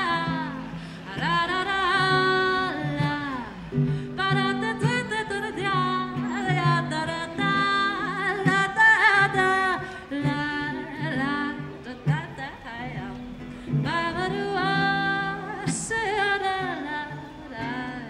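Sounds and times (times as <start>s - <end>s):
strummed ukulele: 0.0s - 18.0s
woman singing: 0.0s - 18.0s.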